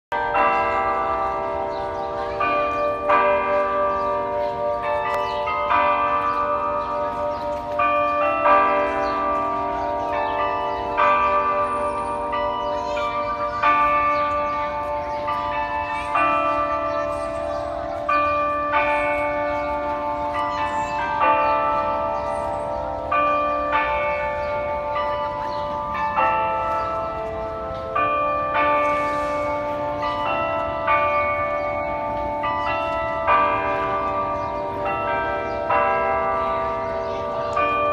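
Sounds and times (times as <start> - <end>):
carillon bells chiming a tune: 0.2 - 37.9.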